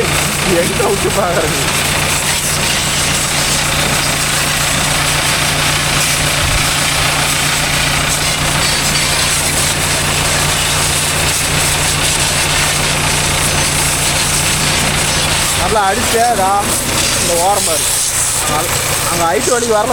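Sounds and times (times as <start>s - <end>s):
motor humming: 0.0s - 19.9s.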